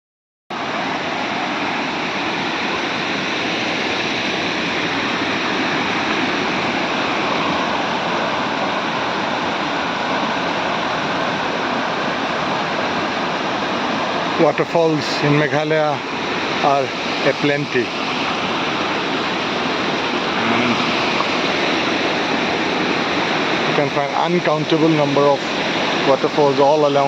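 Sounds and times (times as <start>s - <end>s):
waterfall and stream rushing: 0.5s - 27.0s.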